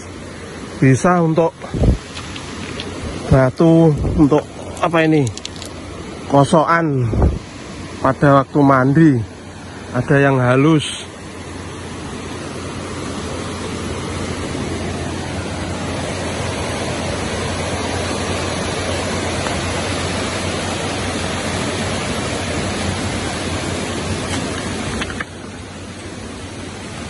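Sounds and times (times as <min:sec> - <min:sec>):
river rushing over stones: 0:00.0 - 0:27.0.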